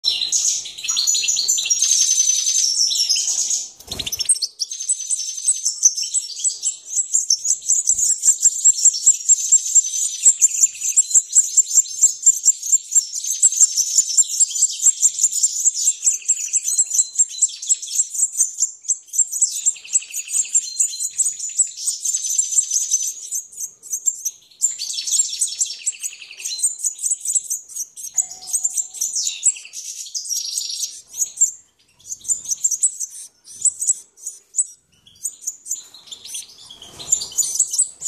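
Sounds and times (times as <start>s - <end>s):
goldfinches chirping: 0.0s - 38.0s.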